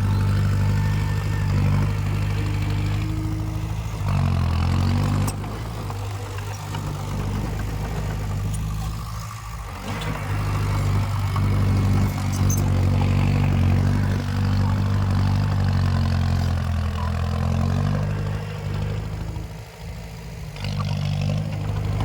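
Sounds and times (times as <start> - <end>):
heavy machinery diesel engine: 0.0 - 22.0.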